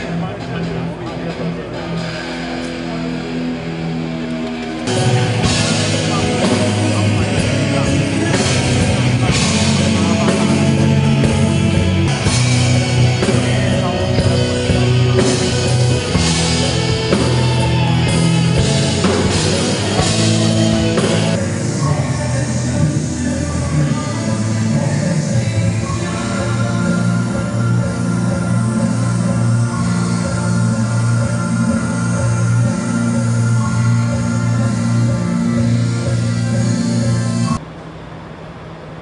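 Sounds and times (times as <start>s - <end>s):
loud rock music: 0.0s - 37.6s.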